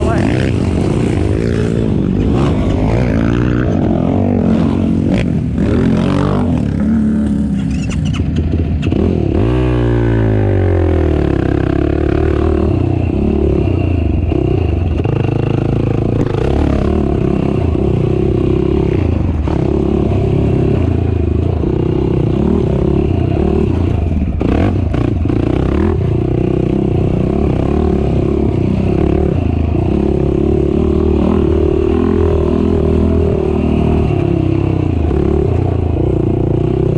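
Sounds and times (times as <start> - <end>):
atv engine revving: 0.0 - 36.9.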